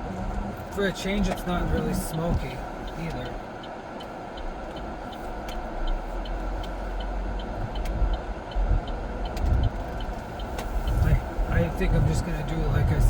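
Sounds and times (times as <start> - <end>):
car engine and road rumble: 0.0 - 13.0
light ticking: 0.3 - 13.0.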